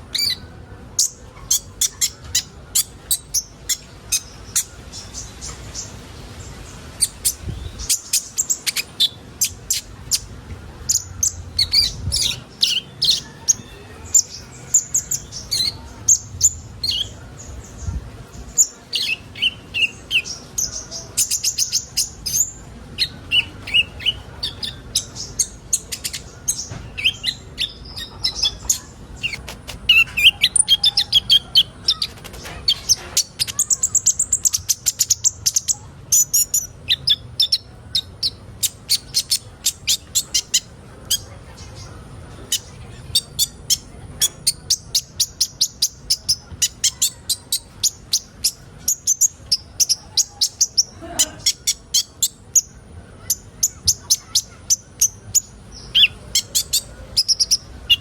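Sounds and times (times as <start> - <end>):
bird chirping and trilling: 0.0 - 58.0.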